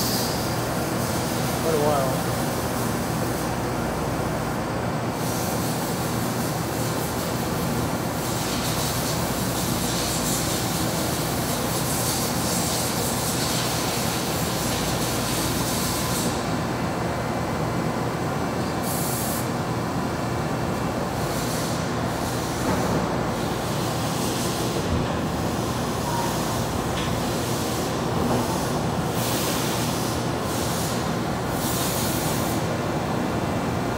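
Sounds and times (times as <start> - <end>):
coolant spray hiss: 0.0 - 3.6, 5.1 - 16.7, 18.6 - 19.6, 21.1 - 33.4.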